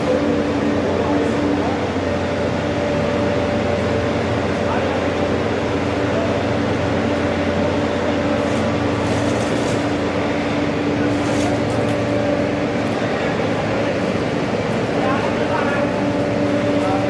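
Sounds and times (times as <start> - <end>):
furnace electrical hum: 0.0 - 17.0.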